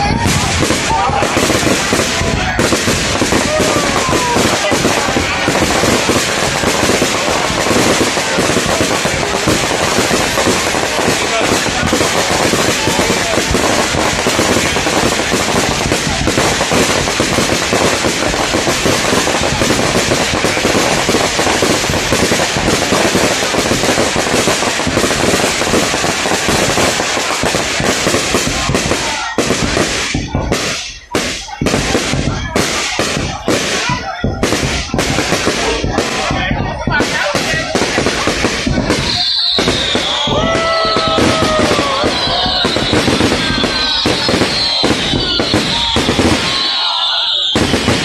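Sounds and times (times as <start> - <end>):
fireworks bursts and bangs: 0.0 - 48.0.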